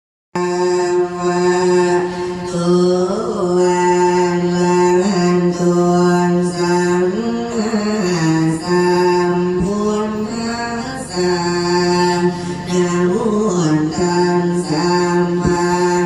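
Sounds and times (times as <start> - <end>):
man chanting long sliding notes: 0.4 - 16.0.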